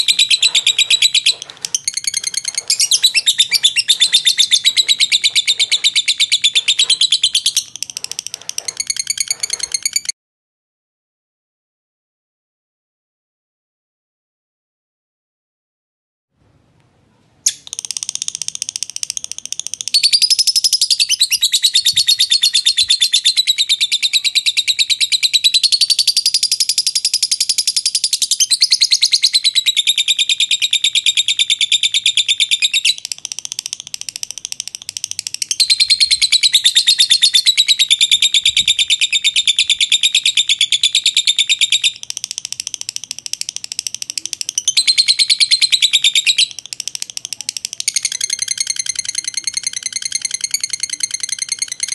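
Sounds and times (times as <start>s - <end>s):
lovebird chattering trill: 0.0s - 10.1s, 17.5s - 51.9s.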